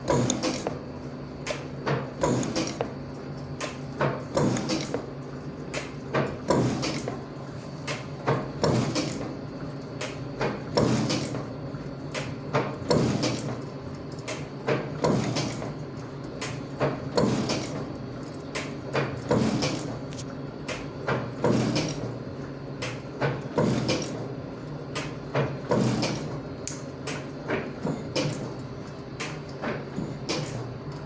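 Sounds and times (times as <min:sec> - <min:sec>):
steady motor hum: 0:00.0 - 0:31.0.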